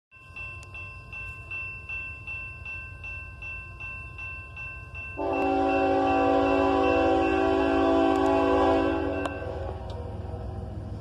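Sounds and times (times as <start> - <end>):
distant freight train rumble: 0.2 - 11.0.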